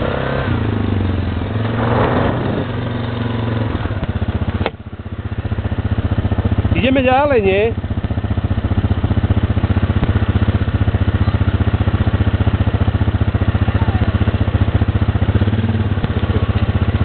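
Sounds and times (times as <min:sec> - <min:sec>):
quad bike engine idling: 0:00.0 - 0:17.0.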